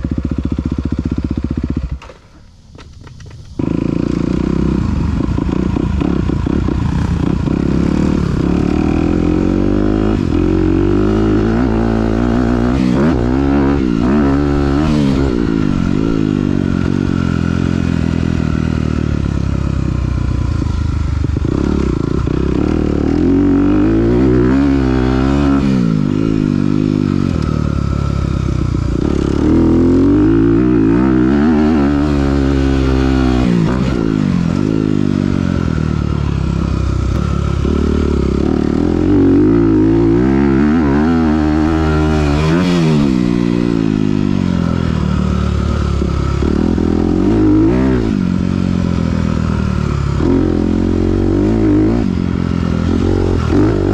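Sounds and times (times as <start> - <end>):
dirt bike engine revving: 0.0 - 2.4, 3.4 - 53.9.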